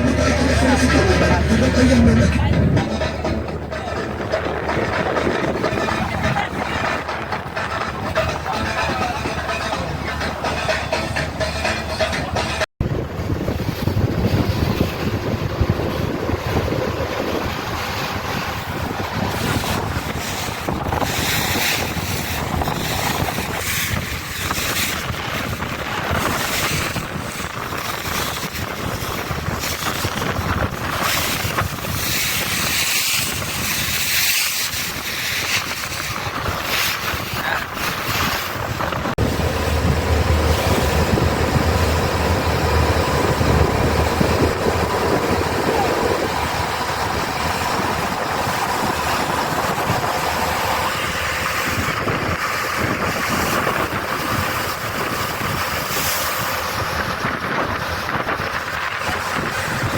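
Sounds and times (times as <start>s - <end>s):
sea water rushing: 0.0s - 59.9s
wind gusting on microphone: 0.0s - 59.9s.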